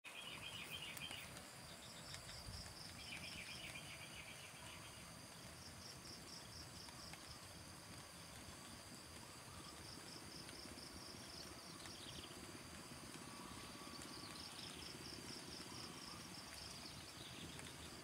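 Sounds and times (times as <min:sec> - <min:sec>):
insects chirping: 0:00.1 - 0:18.0
low steady hiss: 0:00.1 - 0:18.0.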